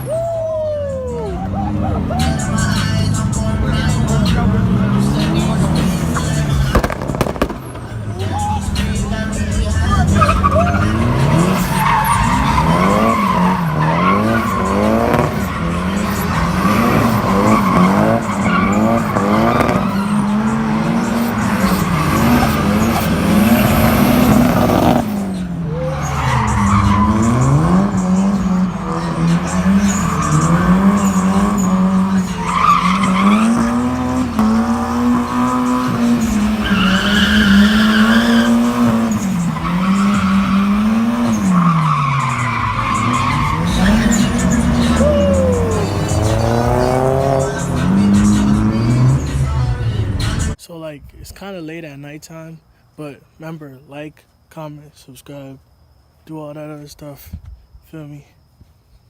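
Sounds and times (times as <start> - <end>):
tyres screeching: 0.0 - 50.6
car engine revving: 1.1 - 50.6.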